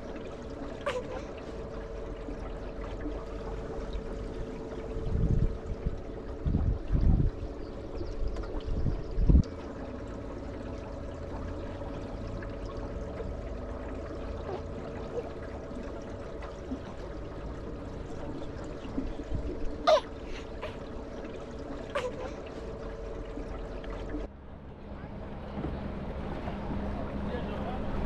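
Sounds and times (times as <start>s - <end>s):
boat motor humming: 0.0s - 28.0s
water trickling along hull: 0.0s - 28.0s.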